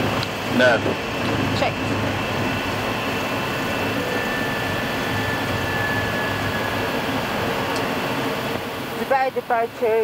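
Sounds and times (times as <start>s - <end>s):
aircraft engine and airflow noise: 0.0s - 10.0s
faint whining tones: 0.0s - 10.0s.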